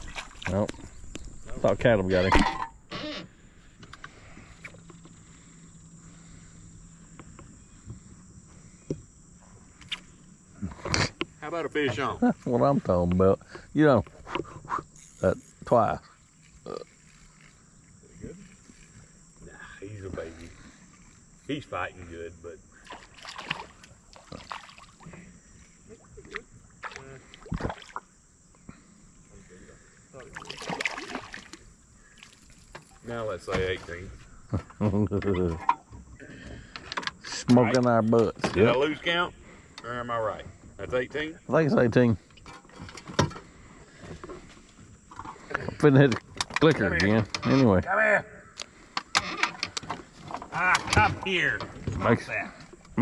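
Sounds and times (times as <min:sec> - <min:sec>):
faint low hum: 0:00.0 - 0:47.0
insects trilling: 0:00.0 - 0:53.0.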